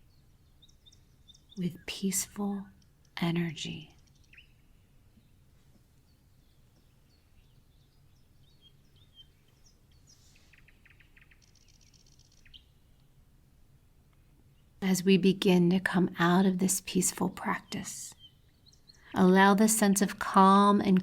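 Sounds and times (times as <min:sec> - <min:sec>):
faint bird chirps and trills: 0:00.0 - 0:21.0.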